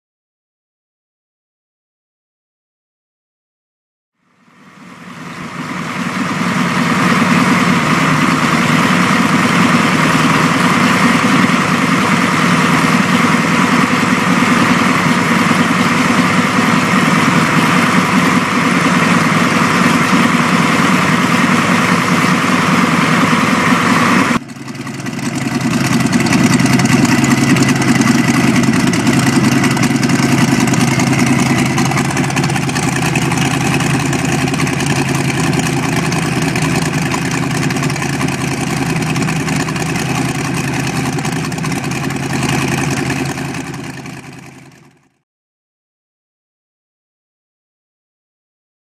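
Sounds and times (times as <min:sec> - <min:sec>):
boat engine idling: 0:04.6 - 0:45.1.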